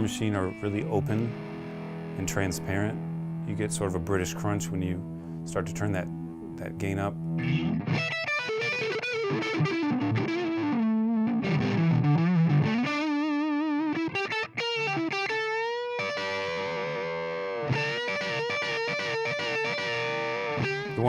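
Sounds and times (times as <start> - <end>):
overdriven electric guitar lead: 0.0 - 21.0.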